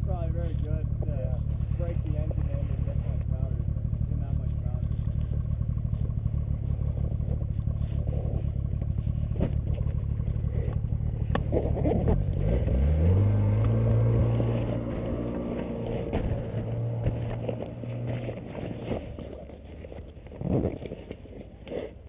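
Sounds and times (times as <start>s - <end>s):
snowmobile engine revving: 0.0s - 19.6s.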